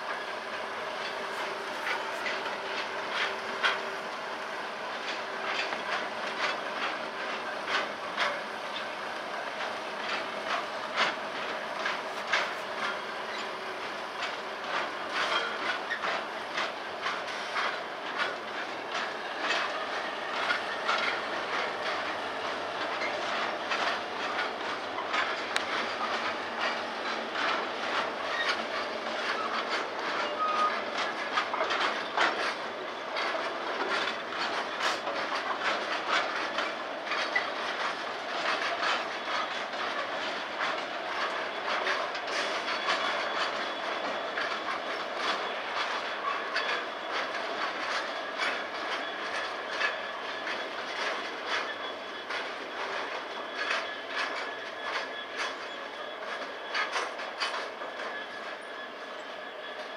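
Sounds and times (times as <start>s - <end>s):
freight train rumble: 0.0s - 59.9s
wheels clicking over rail joints: 0.0s - 59.9s.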